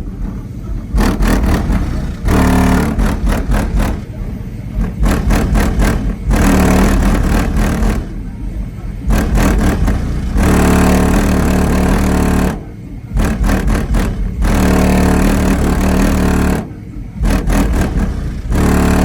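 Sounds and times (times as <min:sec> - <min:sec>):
engine revving: 0:00.6 - 0:19.0.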